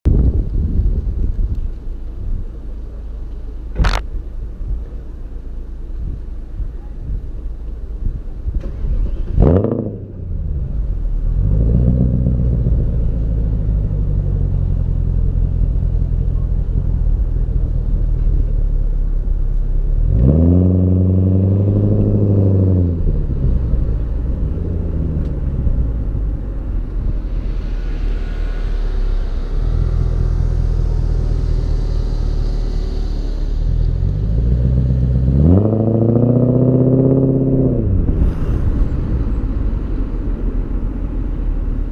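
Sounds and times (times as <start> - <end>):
car engine exhaust: 0.1 - 41.9.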